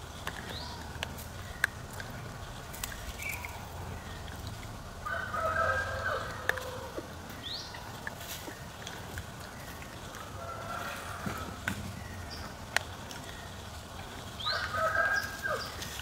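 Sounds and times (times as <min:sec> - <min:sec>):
drawn-out animal call: 0:00.0 - 0:16.0.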